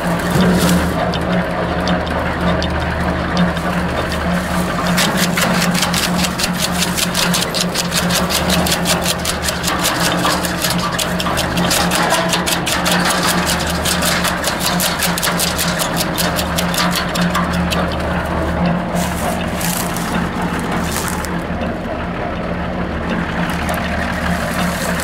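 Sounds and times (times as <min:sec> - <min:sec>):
branches clattering in chipper: 0:00.0 - 0:01.7, 0:03.1 - 0:21.6, 0:23.2 - 0:25.0
wood chipper running: 0:00.0 - 0:25.0.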